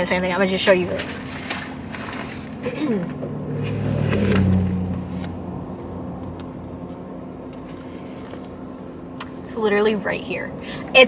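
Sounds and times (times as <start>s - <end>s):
low vehicle hum: 0.0s - 11.0s.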